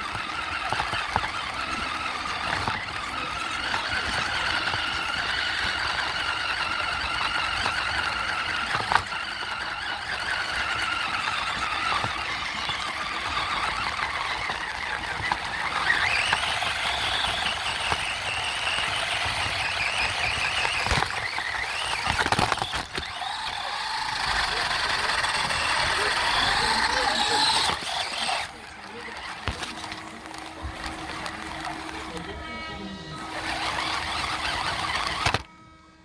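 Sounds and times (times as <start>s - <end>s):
toy truck motor whining: 0.0s - 36.0s.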